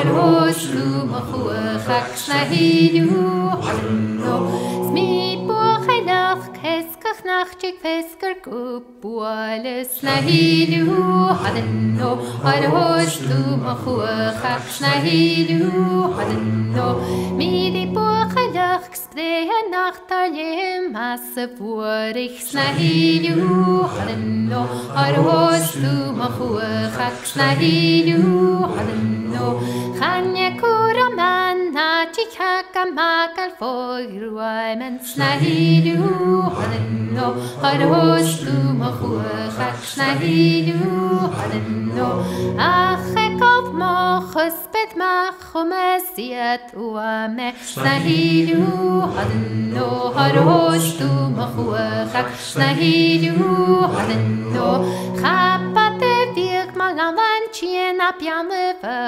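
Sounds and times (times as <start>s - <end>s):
voices singing folk song in harmony: 0.0s - 59.0s.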